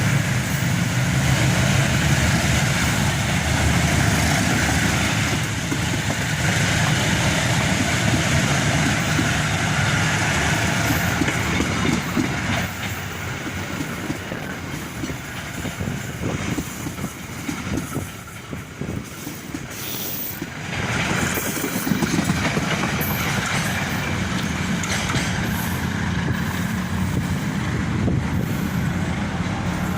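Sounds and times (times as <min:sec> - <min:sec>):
train rumbling clatter on rails: 0:00.0 - 0:29.9.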